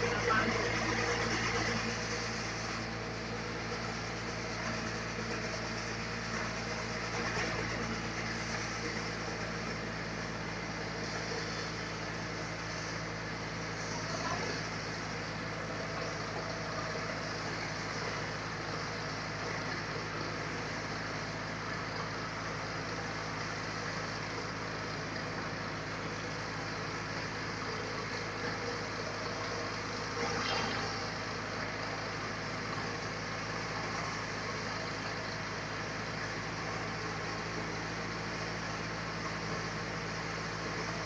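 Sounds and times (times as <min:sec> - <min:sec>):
sawmill machinery humming: 0:00.0 - 0:41.0.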